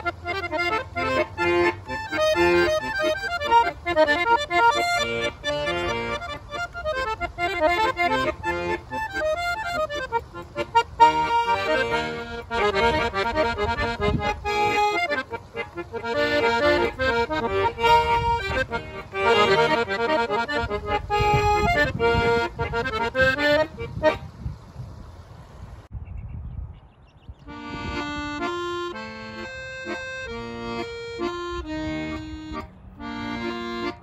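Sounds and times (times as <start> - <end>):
accordion playing a tune: 0.0 - 24.3, 27.4 - 34.0.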